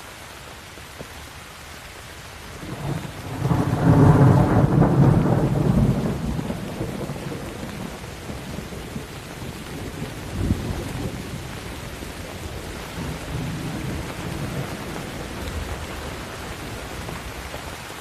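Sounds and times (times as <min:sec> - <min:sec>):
steady rain: 0:00.0 - 0:18.0
thunder rumble: 0:02.6 - 0:17.5.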